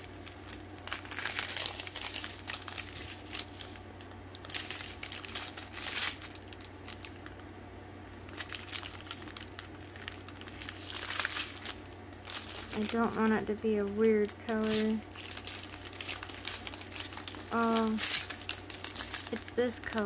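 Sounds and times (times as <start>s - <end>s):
plastic bags crinkling: 0.0s - 20.0s.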